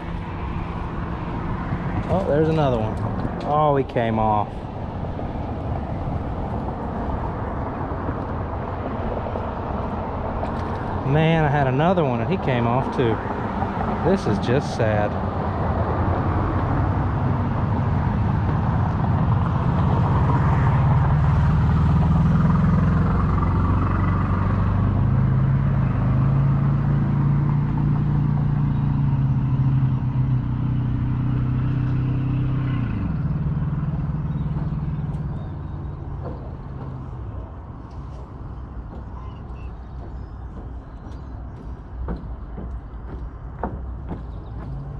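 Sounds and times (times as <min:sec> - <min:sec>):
passing vehicle engine and tyre roar: 0:00.0 - 0:44.9.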